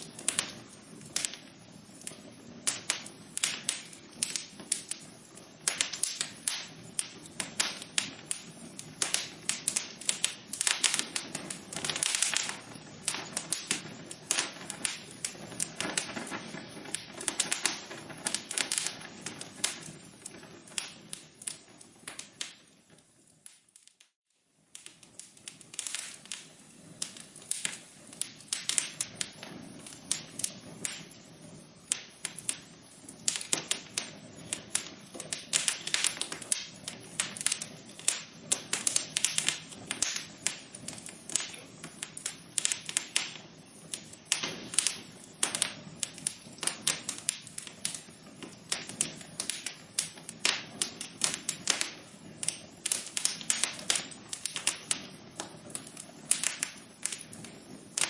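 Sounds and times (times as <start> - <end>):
low hiss: 0.0 - 58.0
wood fire crackling: 0.0 - 58.0.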